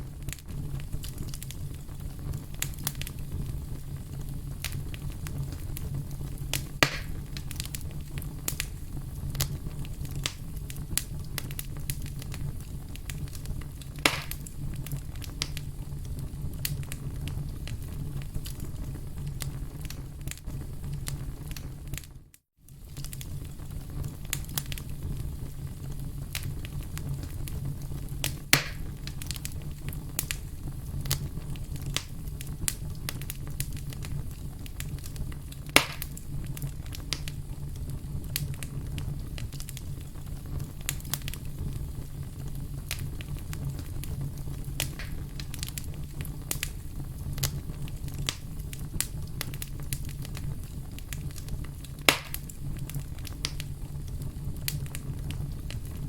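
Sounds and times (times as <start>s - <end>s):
loud fire pops: 0.0s - 56.0s
wood fire crackling: 0.0s - 56.0s.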